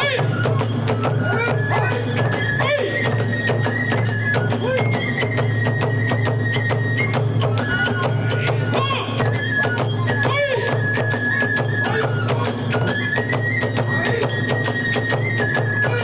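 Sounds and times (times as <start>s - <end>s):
bamboo flute melody: 0.0s - 16.0s
drum beats: 0.0s - 16.0s.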